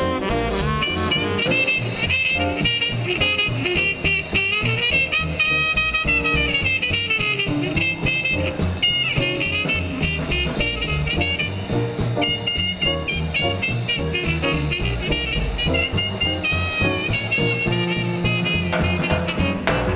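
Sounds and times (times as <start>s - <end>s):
saxophone melody: 0.0s - 19.9s
swing band playing: 0.0s - 19.9s
trumpet melody: 0.0s - 19.9s.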